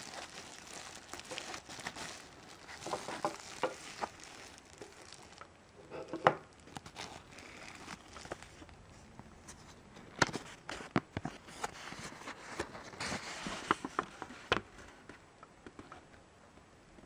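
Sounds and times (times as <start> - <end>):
paper crackling and rustling: 0.0 - 5.5, 6.2 - 15.1.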